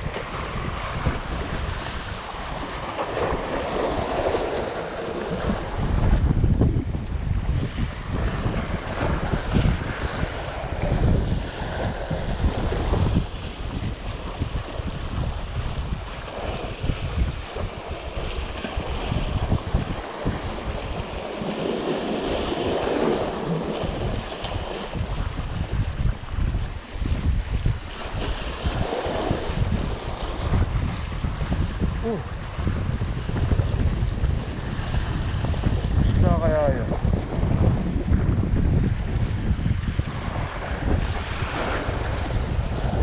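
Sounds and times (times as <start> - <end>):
waves splashing against rocks: 0.0 - 37.5, 38.1 - 43.0
wind buffeting microphone: 0.0 - 43.0.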